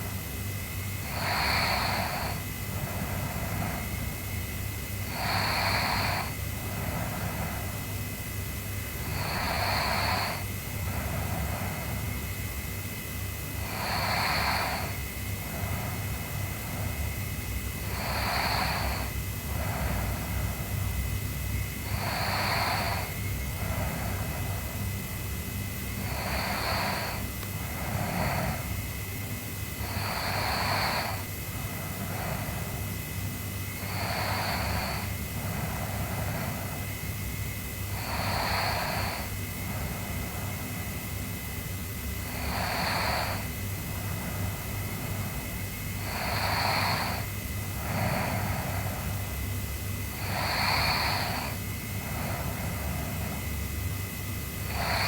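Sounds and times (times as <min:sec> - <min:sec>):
steady low hum: 0:00.0 - 0:55.0
low steady rasp: 0:00.9 - 0:55.0
girl snoring: 0:01.0 - 0:08.1, 0:08.9 - 0:12.4, 0:13.5 - 0:21.0, 0:21.8 - 0:25.1, 0:25.9 - 0:29.0, 0:29.7 - 0:32.9, 0:33.7 - 0:37.0, 0:37.8 - 0:41.1, 0:42.2 - 0:53.6, 0:54.6 - 0:55.0.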